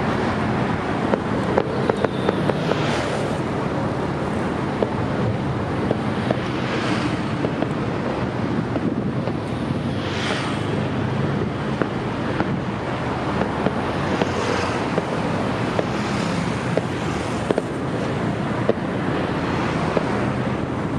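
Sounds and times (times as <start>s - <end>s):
fireworks crackling and popping: 0.0s - 20.7s
traffic: 0.0s - 20.9s
wind on microphone: 0.0s - 20.9s.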